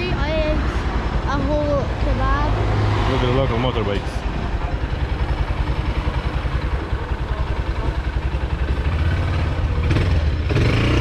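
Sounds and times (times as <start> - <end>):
quad bike engine running: 1.9 - 11.0.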